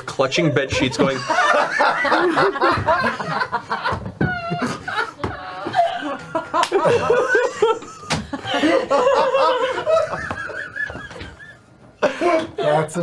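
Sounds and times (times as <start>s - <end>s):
group of people laughing: 0.8s - 12.7s.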